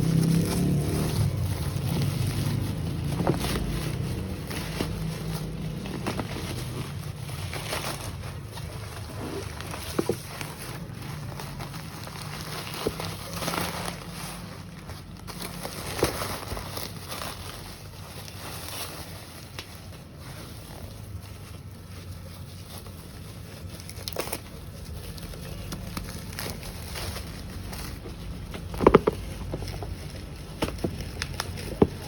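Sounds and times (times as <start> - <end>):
packaging rustling and crinkling: 0.0 - 32.0.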